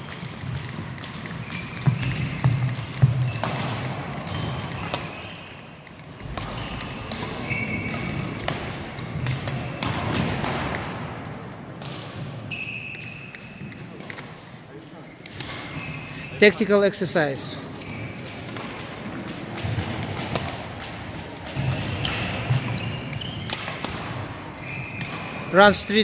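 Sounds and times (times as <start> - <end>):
sneakers squeaking: 0.0 - 10.6, 12.1 - 14.2, 14.9 - 20.6, 21.4 - 26.0
rackets striking shuttlecock: 0.0 - 14.3, 17.8 - 25.5.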